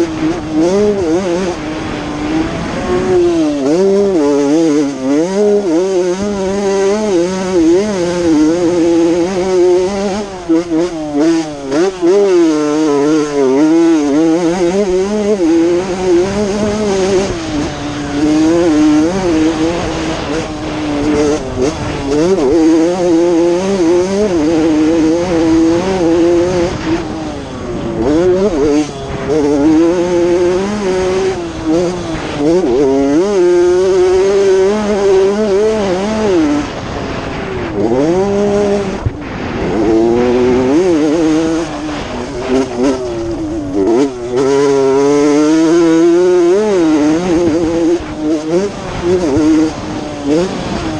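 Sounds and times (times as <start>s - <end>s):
two-stroke motorbike engine revving: 0.0s - 50.9s.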